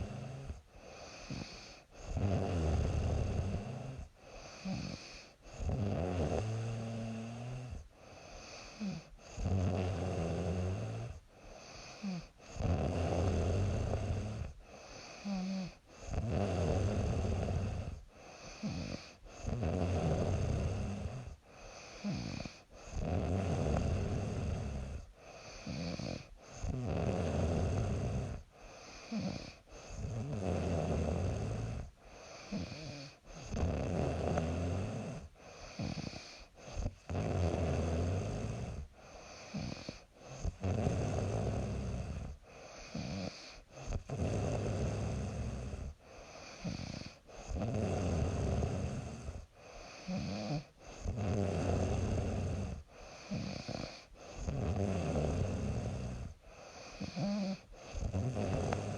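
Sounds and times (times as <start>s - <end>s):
woman snoring: 0.0s - 58.9s.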